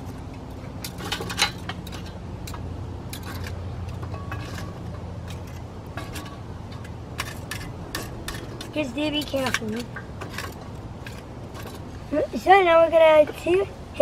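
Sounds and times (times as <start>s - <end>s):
tongs scraping charcoal on grate: 0.0s - 13.7s
low steady hum: 0.0s - 14.0s.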